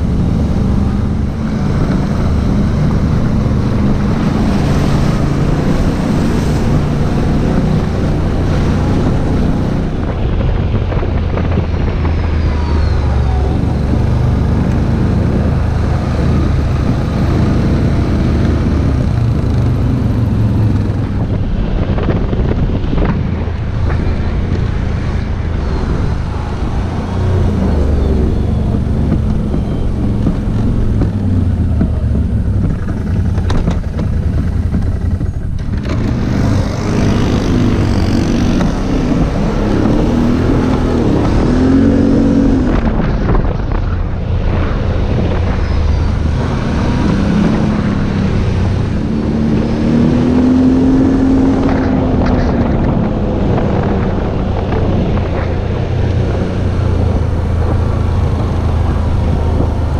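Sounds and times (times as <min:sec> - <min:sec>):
off-road vehicle engine running: 0:00.0 - 0:59.9
wind buffeting microphone: 0:00.0 - 0:59.9.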